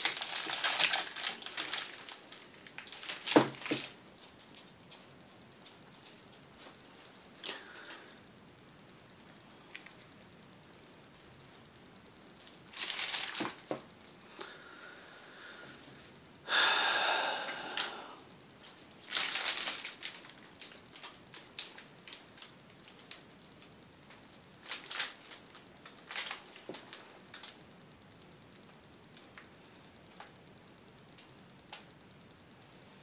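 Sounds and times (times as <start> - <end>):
plastic crinkling and clicking: 0.0 - 14.6, 17.5 - 32.6.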